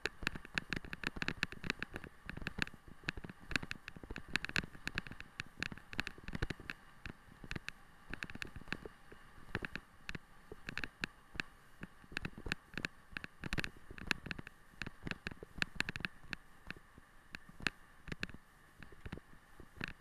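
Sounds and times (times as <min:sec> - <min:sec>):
faint steady rushing: 0:00.0 - 0:20.0.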